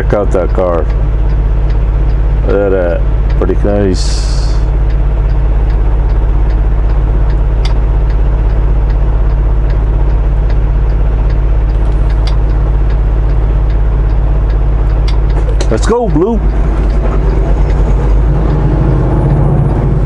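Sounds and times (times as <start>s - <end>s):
diesel engine idling: 0.0s - 20.0s
faint regular ticking: 0.0s - 20.0s.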